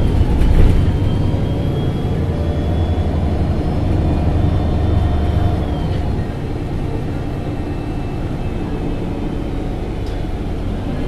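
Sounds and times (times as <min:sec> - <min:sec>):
bus engine pulling under load: 0:00.0 - 0:11.0.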